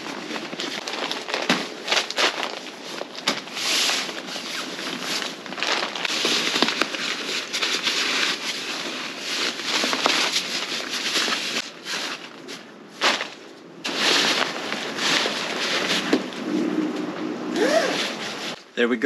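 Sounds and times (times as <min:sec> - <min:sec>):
air mattress rustling and crinkling: 0:00.0 - 0:18.6.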